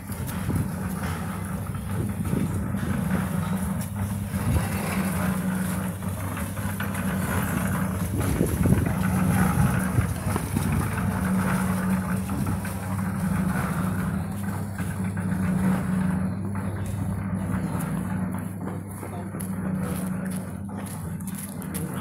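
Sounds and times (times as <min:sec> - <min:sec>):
small engine humming: 0:00.0 - 0:22.0.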